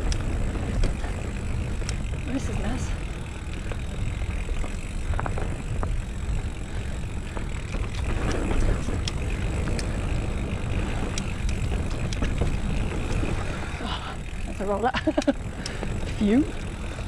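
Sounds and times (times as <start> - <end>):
bike clicks and rattles: 0.0 - 17.0
tyres rolling on dirt: 0.0 - 17.0.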